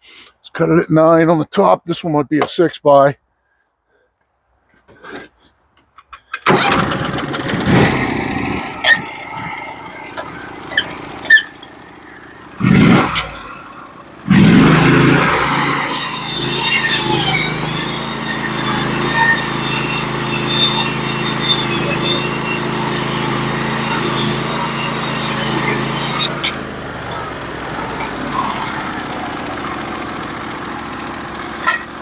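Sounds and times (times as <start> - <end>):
gas engine starting and running: 6.0 - 32.0.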